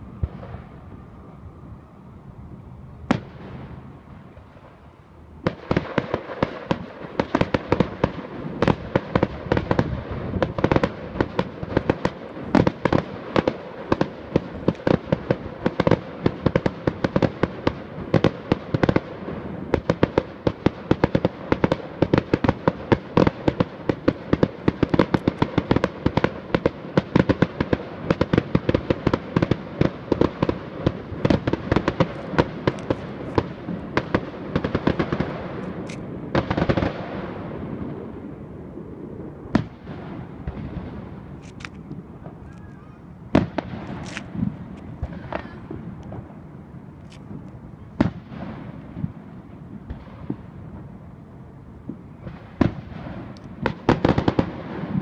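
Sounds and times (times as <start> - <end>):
fireworks bangs and crackles: 0.0 - 1.6, 3.0 - 55.0.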